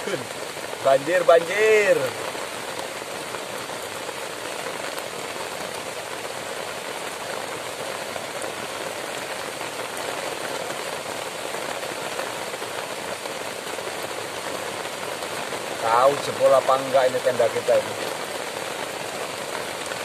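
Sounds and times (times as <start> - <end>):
heavy rain on leaf shelter: 0.0 - 20.0.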